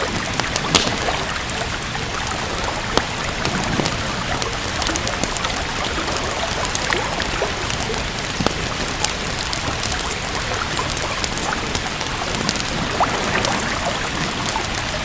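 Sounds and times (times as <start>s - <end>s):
steady rain: 0.0s - 15.0s
water dripping: 0.0s - 15.0s
wood fire crackling: 0.0s - 15.0s.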